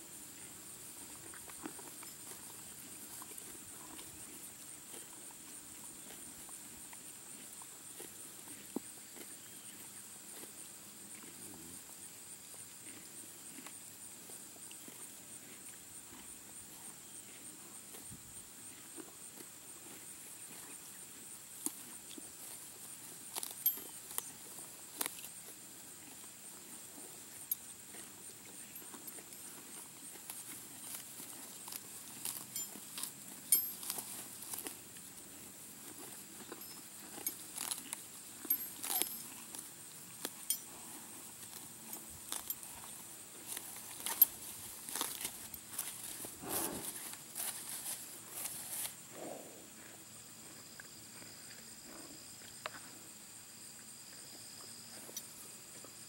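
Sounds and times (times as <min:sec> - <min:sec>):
horses tearing and chewing grass: 0:00.0 - 0:53.1.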